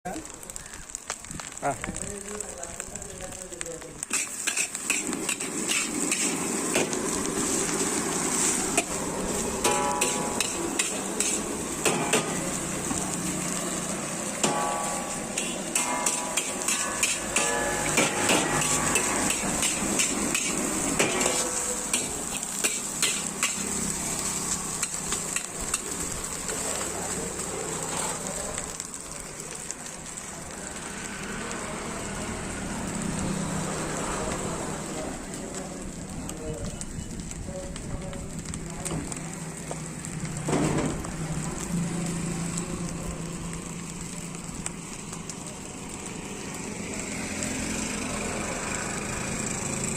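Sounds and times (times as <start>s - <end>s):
food sizzling in a hot pan: 0.1s - 49.9s.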